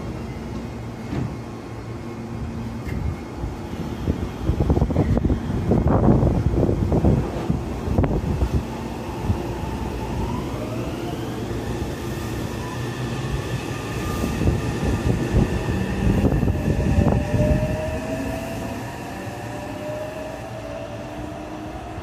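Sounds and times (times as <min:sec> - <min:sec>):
wheels rumbling on rail: 0:00.0 - 0:22.0.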